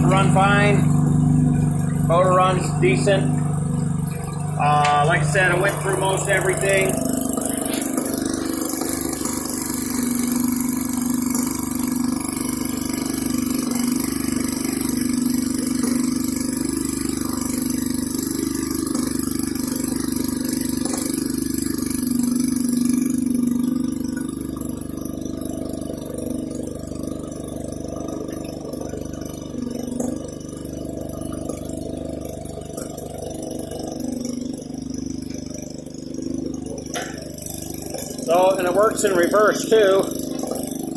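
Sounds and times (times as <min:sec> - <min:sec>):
two-stroke engine running: 0:00.0 - 0:40.9.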